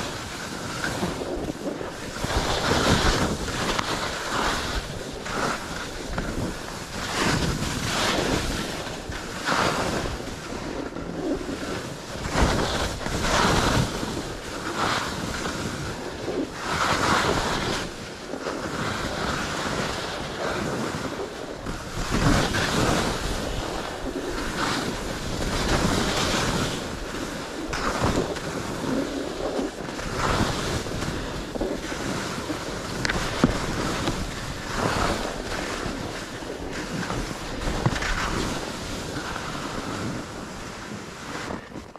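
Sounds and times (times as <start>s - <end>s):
skis scraping over snow: 0.0s - 41.9s
wind over microphone: 0.0s - 41.9s.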